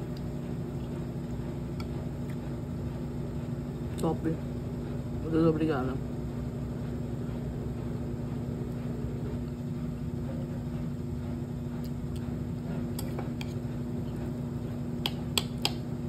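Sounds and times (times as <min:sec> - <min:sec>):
washing machine hum: 0:00.0 - 0:16.0.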